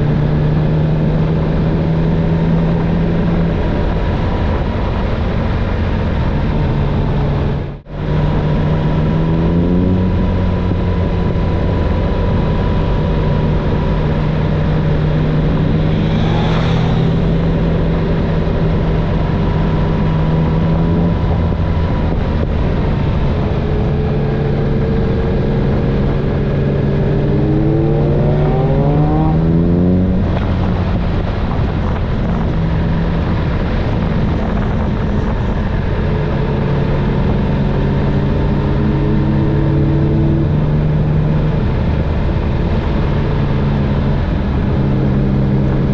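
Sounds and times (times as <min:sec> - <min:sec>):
heavy wind rush: 0:00.0 - 0:45.9
motorcycle engine accelerating: 0:00.0 - 0:45.9.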